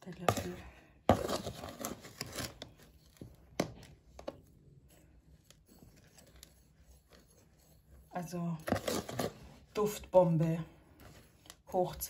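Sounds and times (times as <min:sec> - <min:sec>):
spoon scraping laundry powder: 0:00.0 - 0:12.0.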